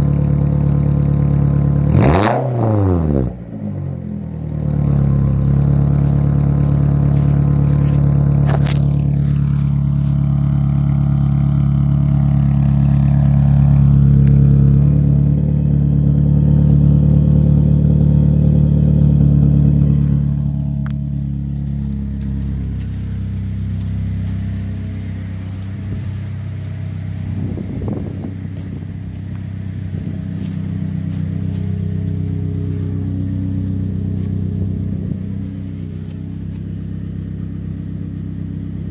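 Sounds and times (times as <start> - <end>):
loud car exhaust revving: 0.0 - 38.9.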